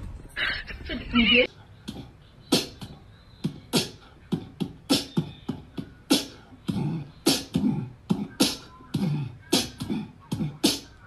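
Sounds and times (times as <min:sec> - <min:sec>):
beatbox percussion: 0:01.4 - 0:11.0.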